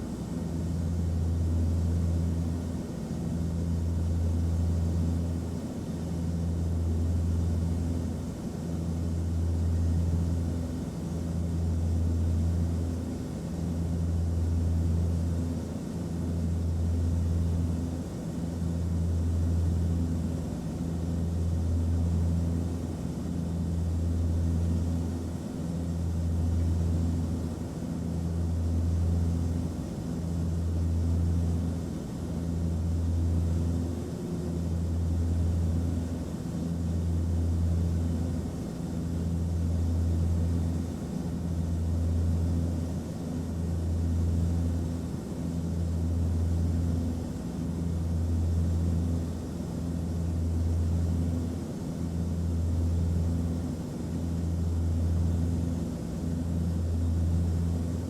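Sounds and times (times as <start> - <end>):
airliner engine drone: 0.0 - 58.0.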